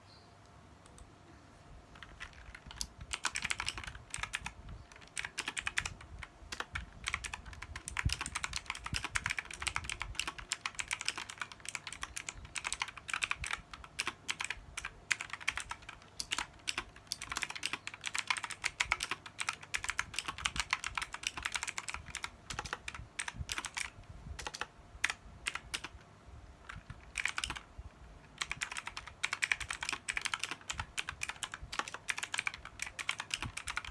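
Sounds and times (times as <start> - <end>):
keyboard typing: 1.9 - 26.0, 26.6 - 33.9.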